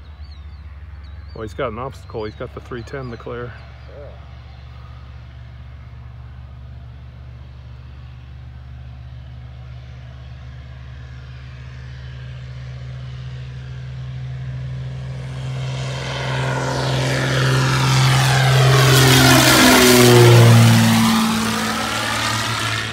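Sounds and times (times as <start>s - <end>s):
propeller plane engine droning: 0.0s - 22.9s.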